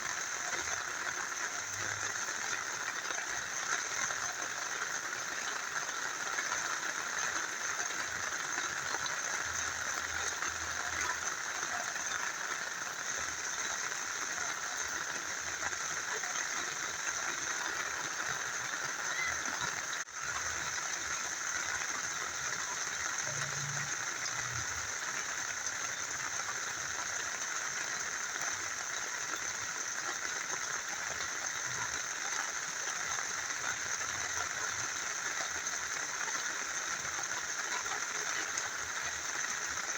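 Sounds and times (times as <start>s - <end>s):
steady rain: 0.0s - 39.9s
stream flowing: 0.0s - 39.9s.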